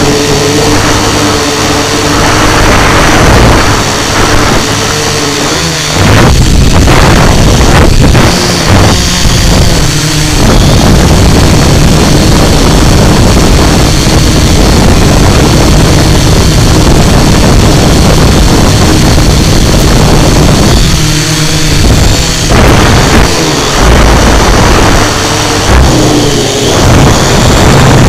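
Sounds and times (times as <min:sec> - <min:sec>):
air rushing over microphone: 0:00.0 - 0:28.0
drone propellers whirring: 0:00.0 - 0:28.0.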